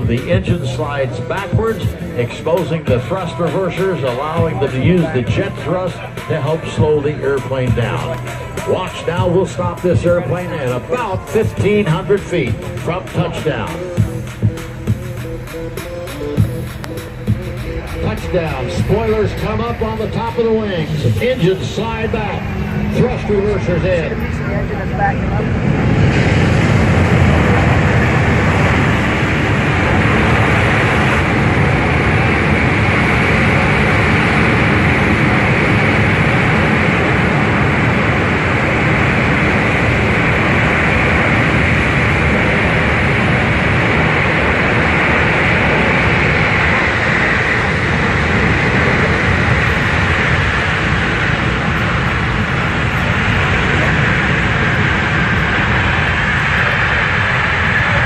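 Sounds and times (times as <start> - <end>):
jet engines in reverse thrust: 0.0 - 58.0.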